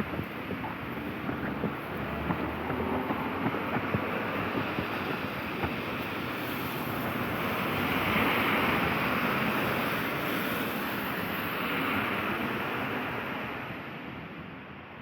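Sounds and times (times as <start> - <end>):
rainy street hiss: 0.0 - 14.1.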